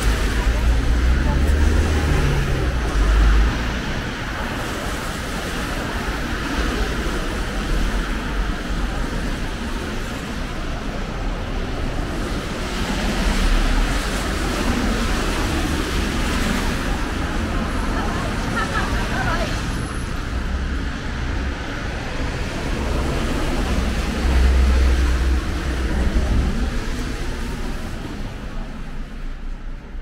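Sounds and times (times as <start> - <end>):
passing cars rumbling: 0.0 - 30.0.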